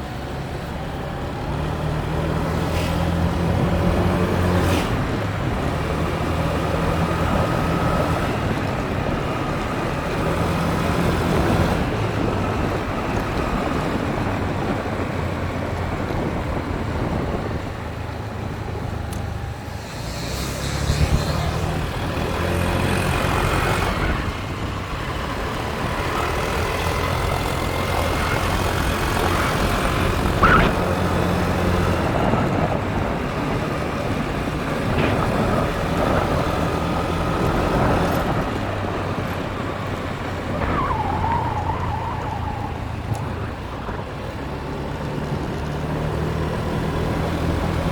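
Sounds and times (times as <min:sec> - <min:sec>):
wind and road noise: 0:00.0 - 0:47.9.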